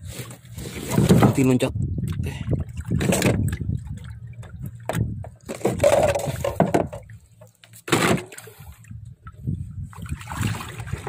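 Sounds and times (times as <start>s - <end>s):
water splashing against boat hull: 0.0s - 11.0s.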